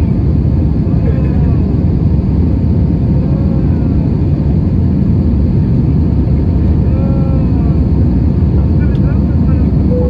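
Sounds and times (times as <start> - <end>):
aircraft cabin engine roar: 0.0 - 10.0.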